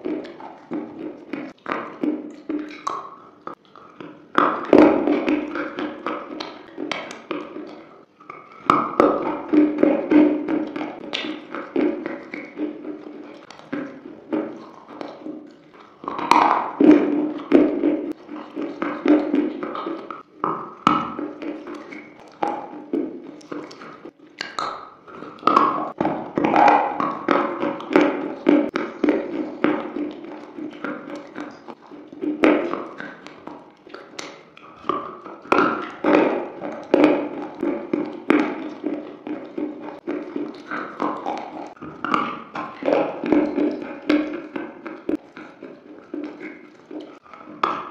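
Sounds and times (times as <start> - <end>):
chewing with sharp crunches: 0.0 - 47.9.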